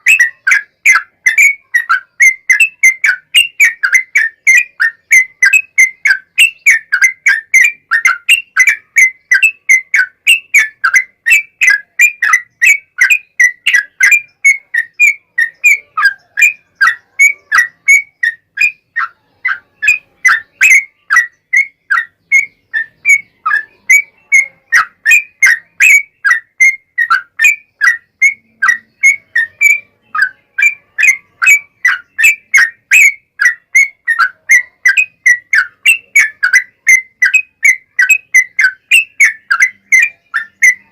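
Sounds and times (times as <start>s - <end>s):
bulbul singing whistled chirps: 0.0s - 40.9s.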